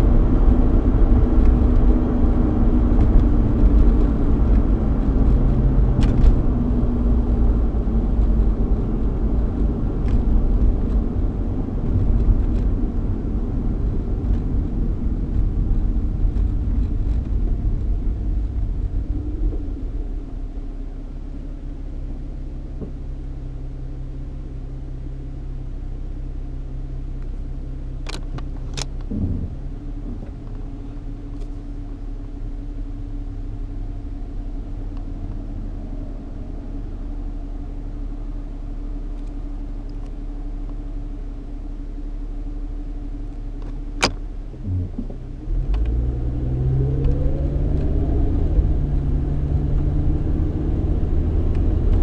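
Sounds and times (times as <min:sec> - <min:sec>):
car engine hum: 0:00.0 - 0:52.0.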